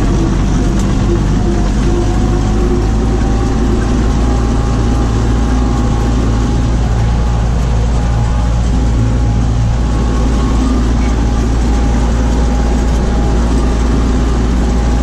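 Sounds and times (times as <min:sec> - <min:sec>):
mulcher shredding stalks: 0:00.0 - 0:15.0
tractor engine running under load: 0:00.0 - 0:15.0.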